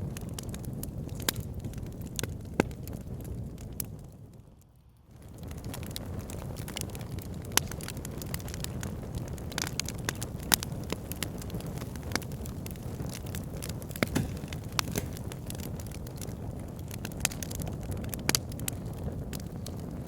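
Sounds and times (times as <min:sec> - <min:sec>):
fire crackling and popping: 0:00.0 - 0:20.0
low rush of flame: 0:00.0 - 0:20.0.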